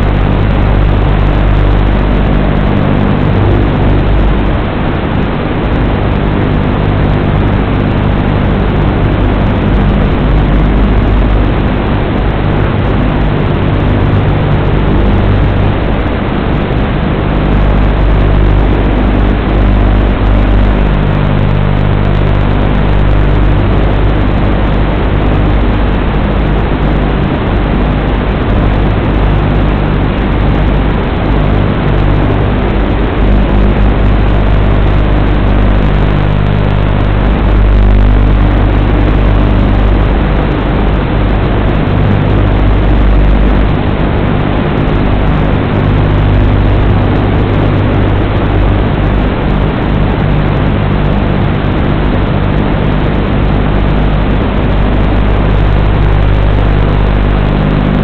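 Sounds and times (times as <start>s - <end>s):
droning hum with hiss: 0.0s - 58.0s.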